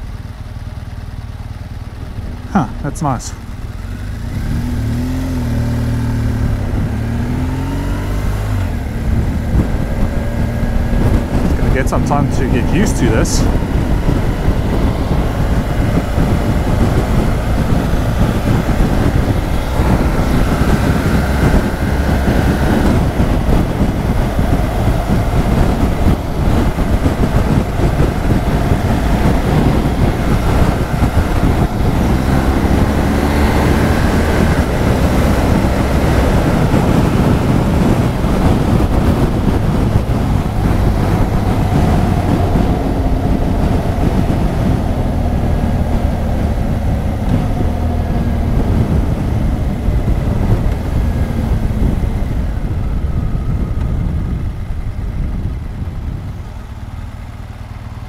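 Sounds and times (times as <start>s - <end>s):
heavy wind rush on microphone: 0.0s - 58.0s
motorcycle engine running: 0.0s - 58.0s.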